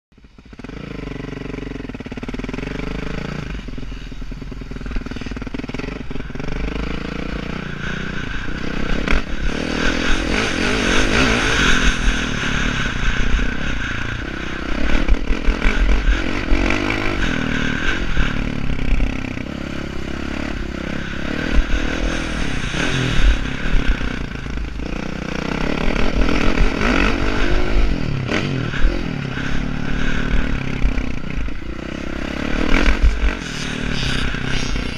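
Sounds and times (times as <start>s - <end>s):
motocross bike engine revving: 0.2s - 34.9s.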